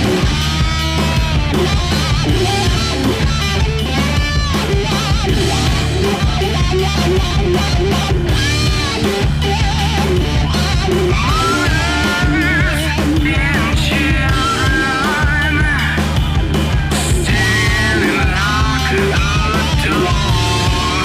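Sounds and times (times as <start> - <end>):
rock song with sung vocal: 0.0 - 21.0.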